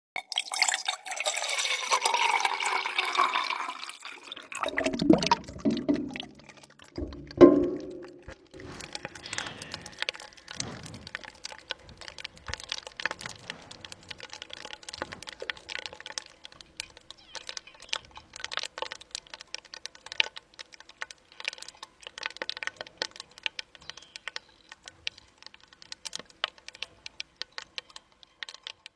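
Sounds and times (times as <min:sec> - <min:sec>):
ice crackling with clicks: 0:00.3 - 0:28.9.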